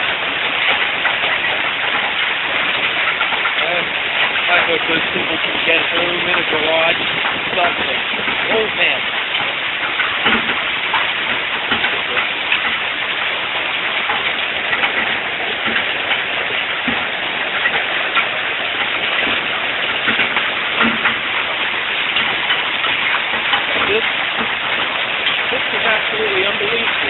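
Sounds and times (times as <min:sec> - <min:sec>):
hail pelting ground and roofs: 0:00.0 - 0:27.0.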